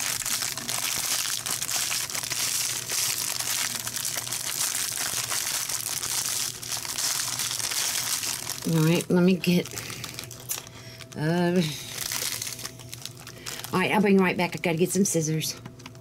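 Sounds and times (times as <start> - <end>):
crackers crunching: 0.0 - 14.1
wrapper crinkling: 0.0 - 15.0.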